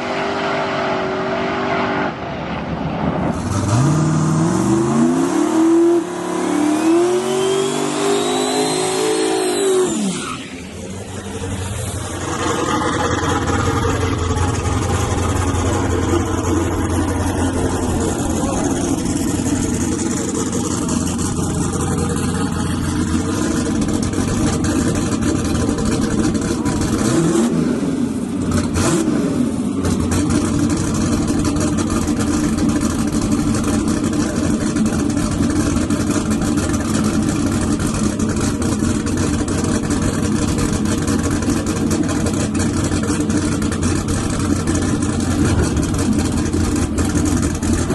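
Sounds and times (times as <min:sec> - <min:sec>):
truck engines running hard: 0:00.0 - 0:47.9.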